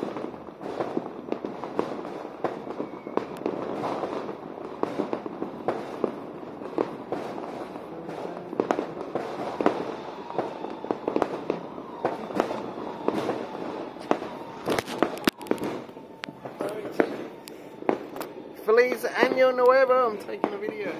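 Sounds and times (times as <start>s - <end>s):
firecrackers crackling: 0.0s - 20.9s
fireworks bangs: 0.0s - 20.9s.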